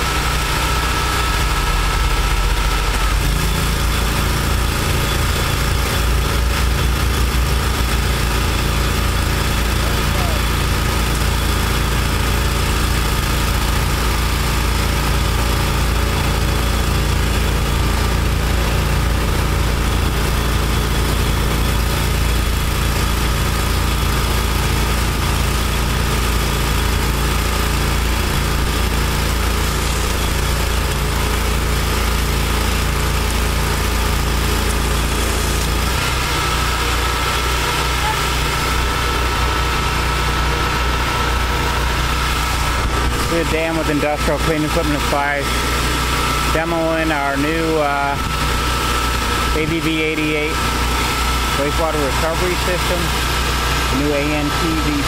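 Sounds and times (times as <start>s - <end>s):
engine drone: 0.0s - 55.0s
steady machine whine: 0.0s - 55.0s.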